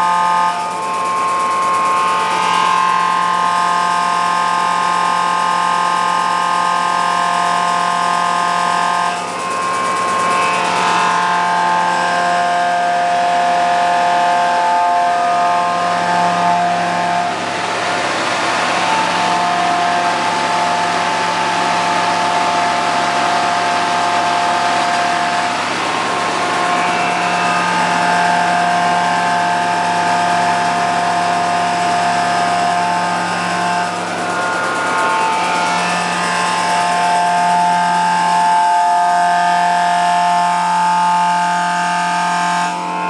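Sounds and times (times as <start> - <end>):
diesel engine drone: 0.0 - 43.0
high whine: 0.0 - 43.0.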